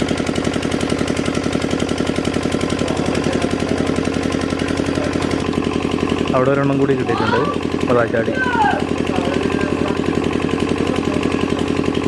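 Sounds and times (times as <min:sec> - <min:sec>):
water pump engine knocking: 0:00.0 - 0:12.0.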